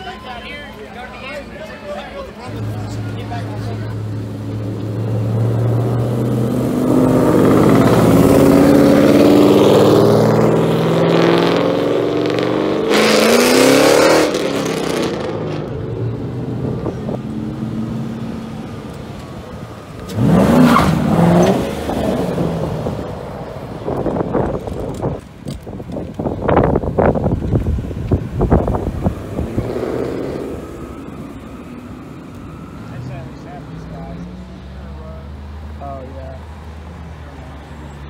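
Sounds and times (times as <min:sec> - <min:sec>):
cars accelerating past: 0:02.4 - 0:25.2, 0:26.5 - 0:38.0.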